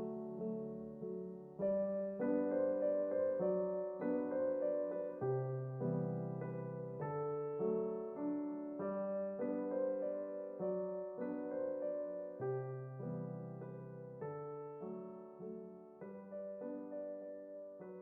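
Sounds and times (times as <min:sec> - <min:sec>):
soft slow piano chords: 0:00.0 - 0:18.0.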